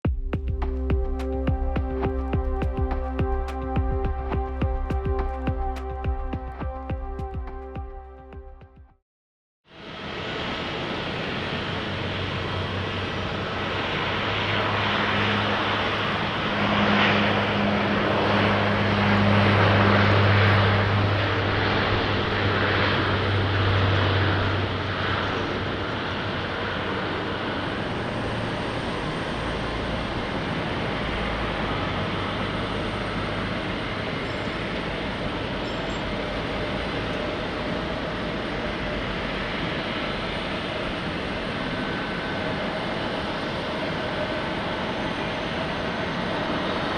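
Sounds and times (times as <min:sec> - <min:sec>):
airliner engines running: 0:00.1 - 0:07.8, 0:09.7 - 0:46.9.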